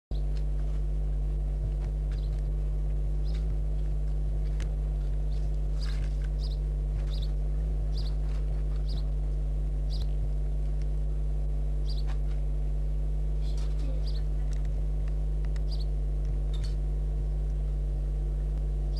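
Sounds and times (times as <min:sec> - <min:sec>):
low electrical hum: 0:00.1 - 0:18.9.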